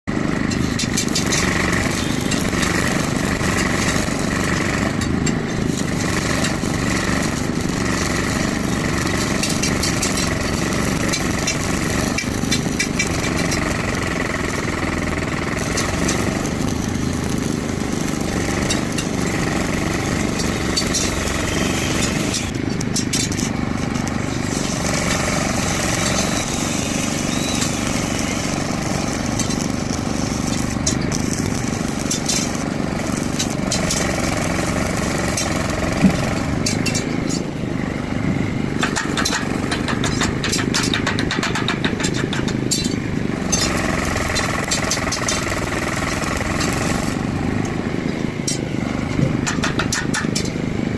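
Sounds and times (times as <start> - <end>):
welding arc crackling: 0.1 - 50.6.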